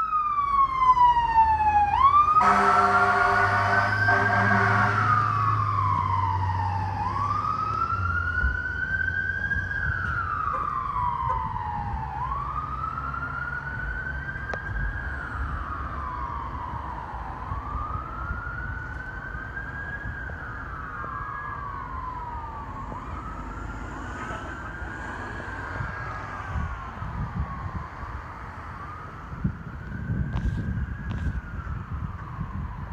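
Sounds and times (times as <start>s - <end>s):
fire engine siren wailing: 0.0s - 32.9s.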